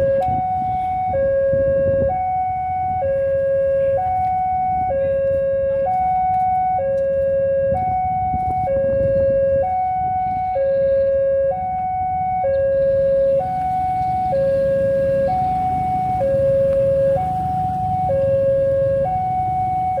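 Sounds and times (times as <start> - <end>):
level crossing two-tone alarm: 0.0 - 20.0.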